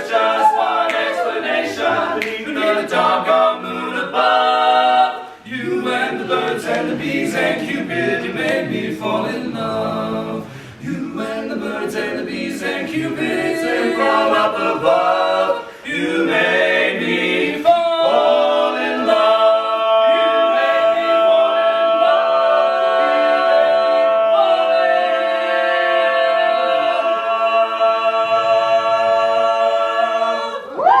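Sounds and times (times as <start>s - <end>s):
a cappella harmony singing: 0.0s - 31.0s.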